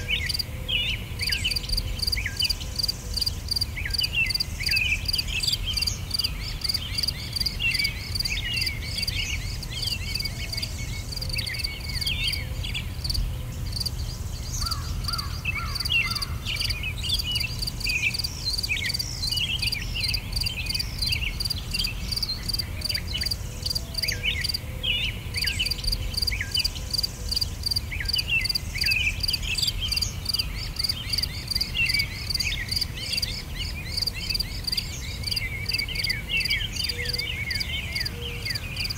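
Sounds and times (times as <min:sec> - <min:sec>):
insects chirping: 0:00.0 - 0:00.5, 0:01.2 - 0:24.6, 0:25.4 - 0:38.9
birds chirping: 0:00.0 - 0:38.9.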